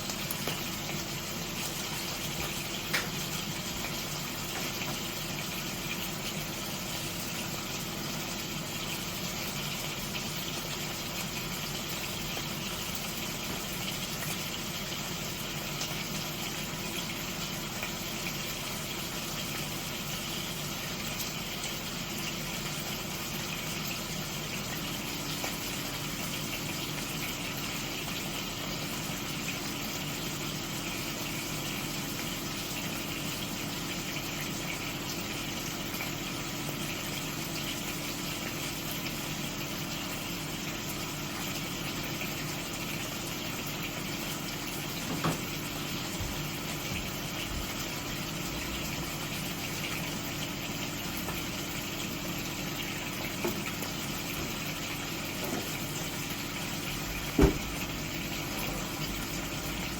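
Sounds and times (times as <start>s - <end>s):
kitchen appliance humming: 0.0s - 59.9s.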